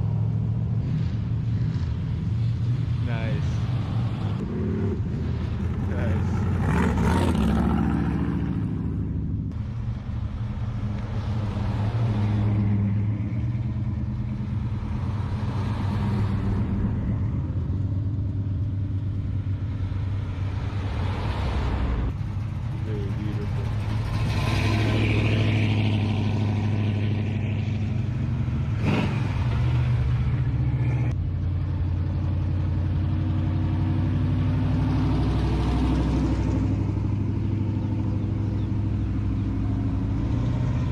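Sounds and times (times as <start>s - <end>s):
old car engines pulling away: 0.0s - 40.9s.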